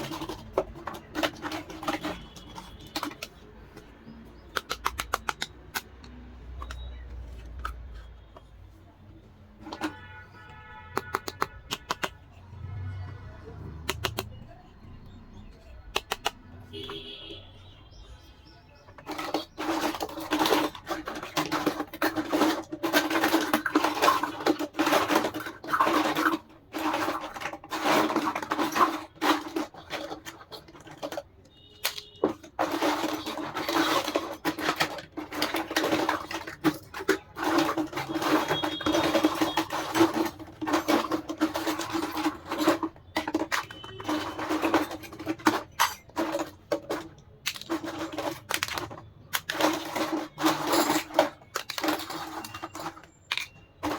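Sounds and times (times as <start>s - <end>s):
plastic pieces being handled: 0.0s - 12.4s, 13.8s - 53.9s.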